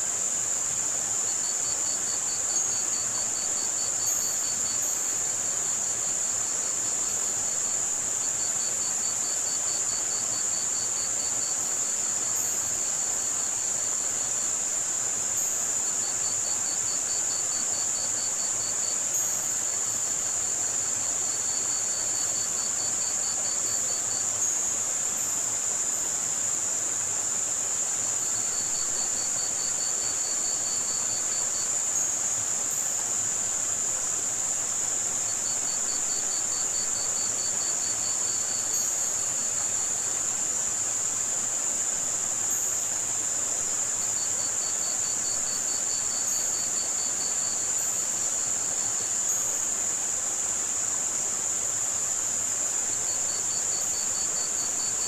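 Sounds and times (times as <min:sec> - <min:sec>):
crickets chirping: 0:00.0 - 0:55.0
high-pitched white noise hiss: 0:00.0 - 0:55.0.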